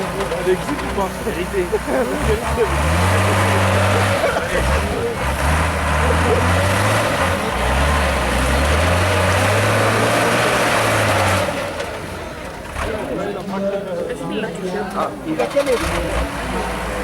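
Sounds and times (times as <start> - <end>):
diesel truck engine under load: 0.0 - 17.0.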